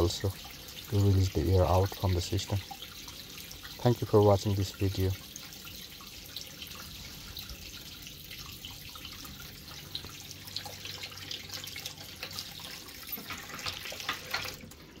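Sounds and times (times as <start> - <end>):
tap water running into sink: 0.0 - 15.0
water splashing onto dishes: 0.0 - 15.0.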